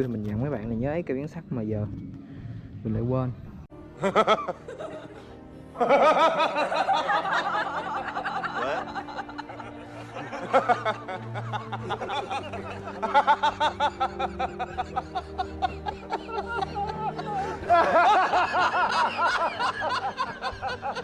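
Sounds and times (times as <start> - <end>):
background music: 0.0 - 21.0
comedic snickering laughter: 4.0 - 21.0.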